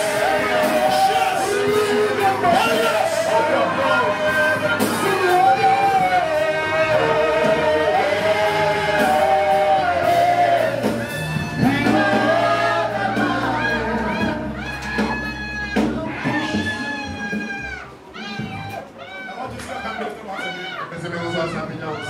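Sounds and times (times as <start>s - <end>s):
voices singing worship song: 0.0s - 18.7s
instrumental accompaniment with bass: 0.0s - 19.0s.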